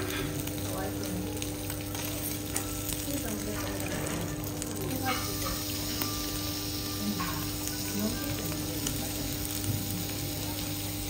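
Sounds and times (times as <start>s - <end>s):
beef sizzling on a griddle: 0.0s - 11.0s.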